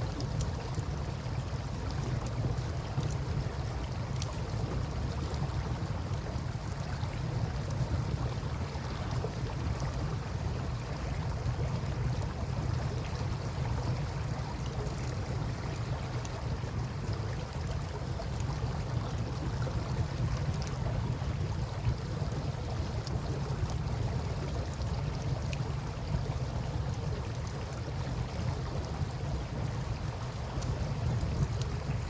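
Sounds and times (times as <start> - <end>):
river rumble: 0.0 - 32.0
wind: 0.0 - 32.0.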